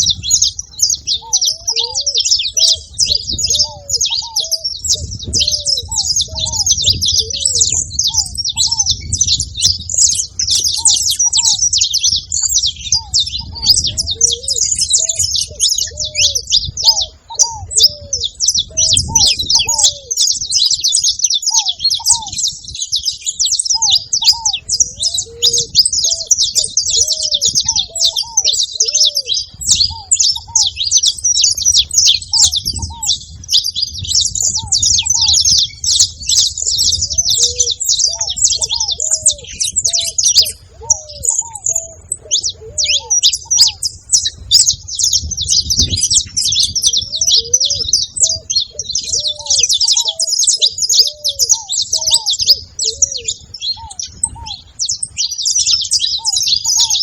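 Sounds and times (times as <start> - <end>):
finches chirping and singing: 0.0 - 57.0.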